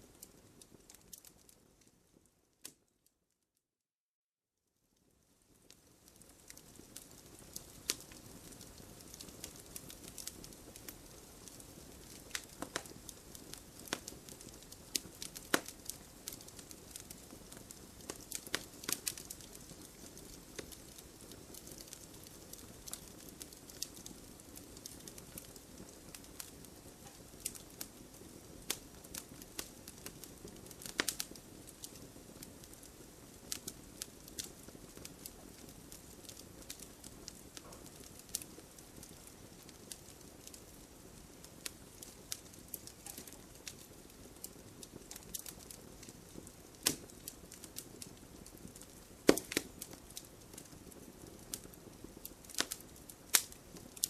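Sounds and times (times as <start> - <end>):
fire crackling in fireplace: 0.0 - 3.1, 4.8 - 54.0.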